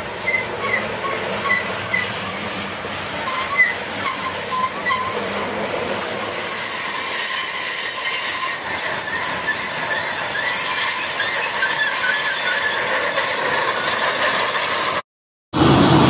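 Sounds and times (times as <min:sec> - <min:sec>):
wheel squeals: 0:00.0 - 0:02.5, 0:03.1 - 0:05.7, 0:06.3 - 0:15.0
model freight cars rolling: 0:00.0 - 0:15.0.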